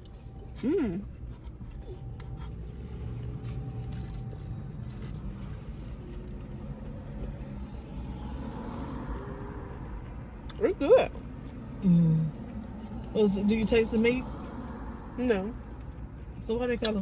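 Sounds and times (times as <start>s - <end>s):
vehicle rumble inside car: 0.0s - 17.0s.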